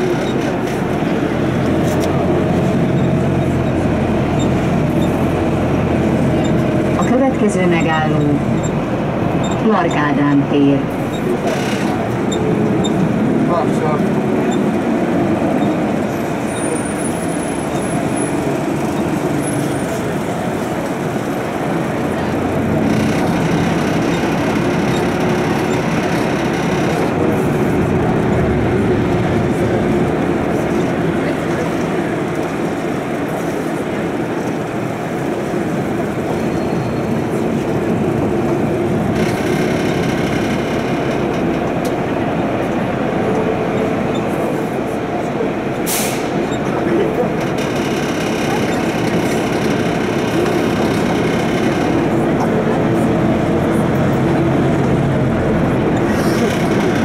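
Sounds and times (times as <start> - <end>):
bus engine and tyre drone: 0.0 - 57.0.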